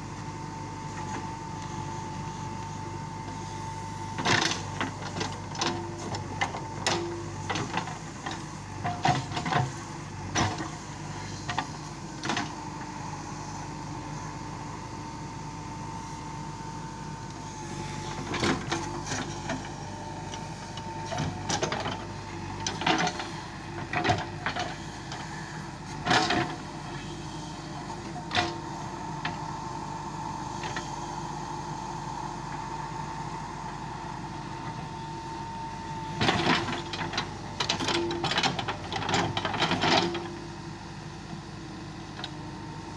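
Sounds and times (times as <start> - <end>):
backhoe diesel engine running: 0.0 - 42.9.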